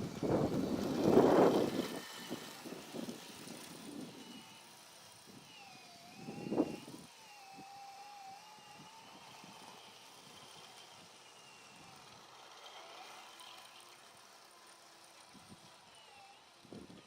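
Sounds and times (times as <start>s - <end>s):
motor high steady whine: 0.0s - 17.0s.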